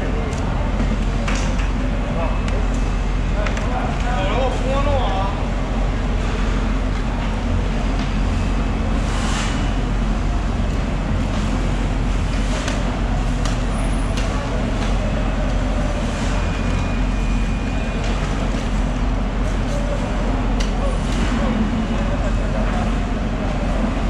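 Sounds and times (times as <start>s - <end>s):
low mechanical rumble of machinery: 0.0s - 24.0s.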